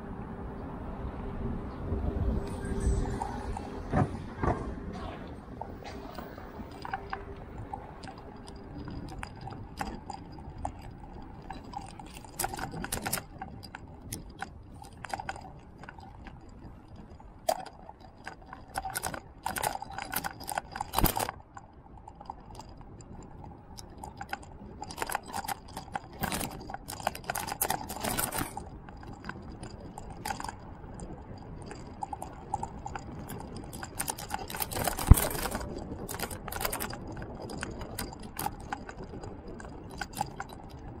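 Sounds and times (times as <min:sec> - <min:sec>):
vehicle riding rumble: 0:00.0 - 0:41.0
rattling clicks: 0:05.8 - 0:41.0.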